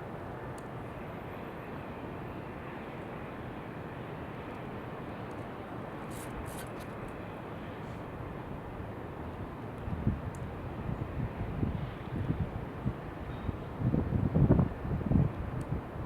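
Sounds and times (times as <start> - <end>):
outdoor wind noise: 0.0 - 16.0.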